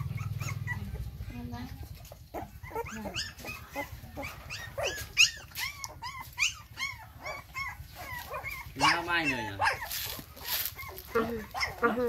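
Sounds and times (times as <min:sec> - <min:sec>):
puppies whining and yelping: 0:00.0 - 0:12.0.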